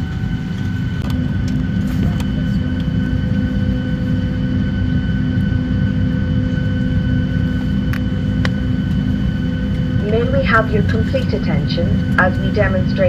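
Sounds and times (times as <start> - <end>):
aircraft cabin rumble: 0.0 - 13.0
steady whining tones: 0.0 - 13.0.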